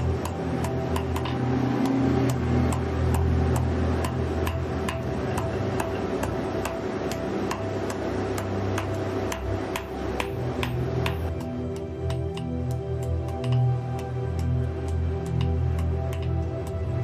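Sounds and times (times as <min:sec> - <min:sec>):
hammer striking hot steel on anvil: 0:00.0 - 0:17.0.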